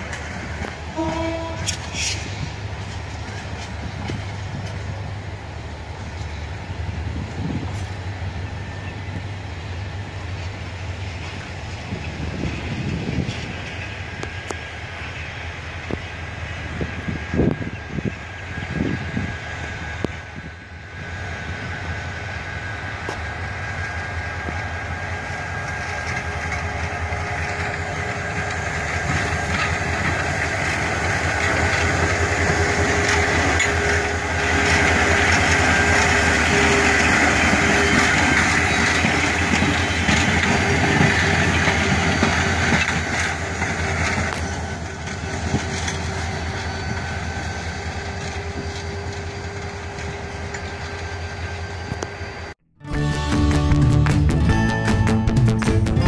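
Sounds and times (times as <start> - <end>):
locomotive engine running: 0.0 - 56.0
train wheel and track noise: 0.0 - 56.0.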